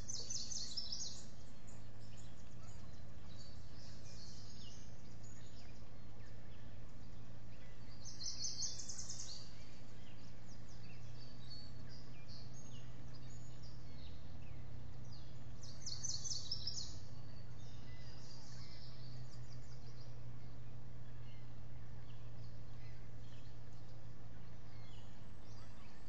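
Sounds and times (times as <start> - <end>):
birds chirping: 0.0 - 26.0
low hum and hiss: 0.0 - 26.0.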